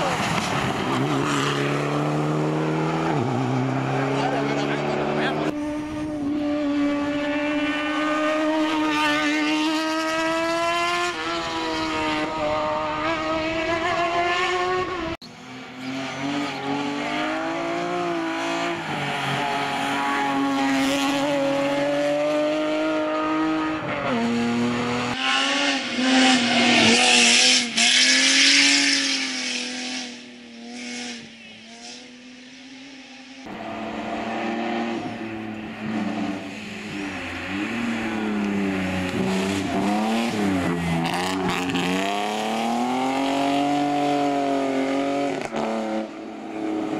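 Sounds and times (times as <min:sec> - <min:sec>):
race cars passing at high revs: 0:00.0 - 0:46.9.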